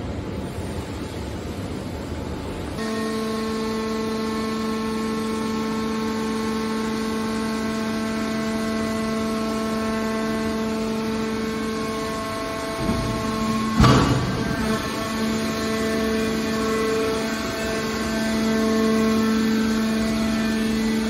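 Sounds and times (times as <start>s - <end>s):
hydraulic motor humming: 2.8s - 21.0s.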